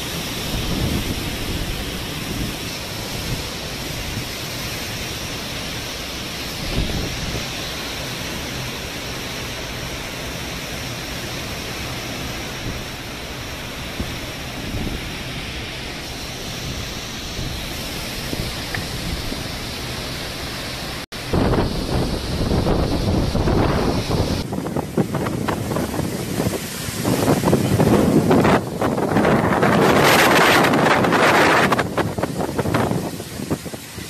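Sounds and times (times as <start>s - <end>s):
wind gusts buffeting microphone: 0.0s - 10.8s, 11.7s - 34.0s
heavy rain: 0.0s - 34.0s.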